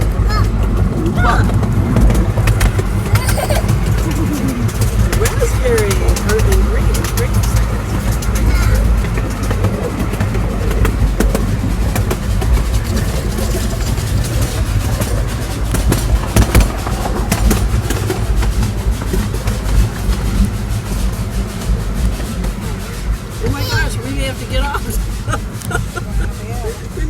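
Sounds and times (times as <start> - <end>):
train cars rumbling: 0.0 - 27.0
wheels clacking on rails: 0.0 - 27.0.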